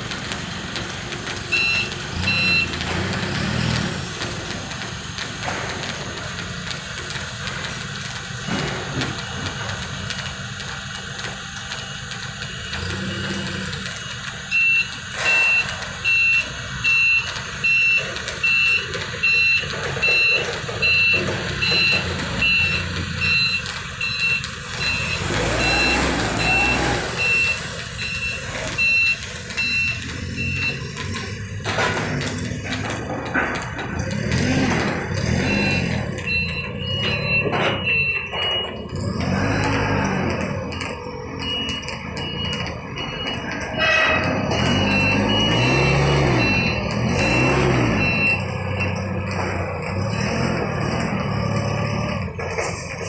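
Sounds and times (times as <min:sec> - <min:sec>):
forklift engine running: 0:00.0 - 0:53.0
reversing alarm beeping: 0:00.7 - 0:52.4.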